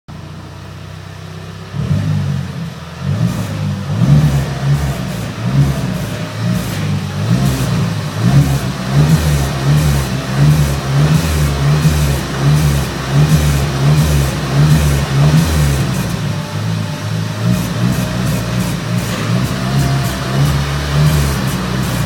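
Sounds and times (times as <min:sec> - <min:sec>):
car low hum: 0:00.1 - 0:22.0
low pulsing drone: 0:00.1 - 0:22.0.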